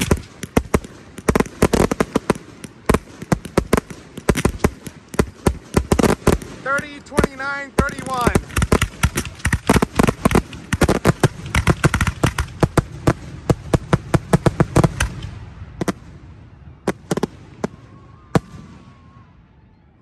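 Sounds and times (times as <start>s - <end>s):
fireworks bangs: 0.0s - 19.3s.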